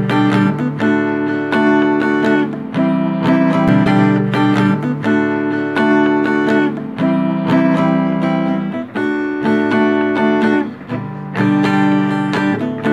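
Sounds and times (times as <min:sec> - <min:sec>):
guitar chords strummed: 0:00.0 - 0:12.9.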